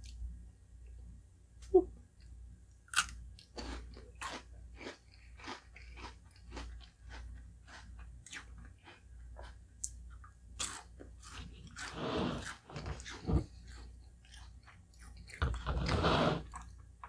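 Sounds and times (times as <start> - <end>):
close chewing and crunching: 2.9 - 17.0.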